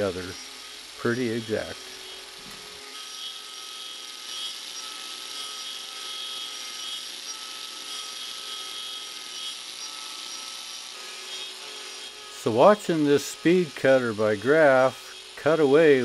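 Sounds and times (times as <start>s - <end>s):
angle grinder cutting wood: 0.0s - 16.0s.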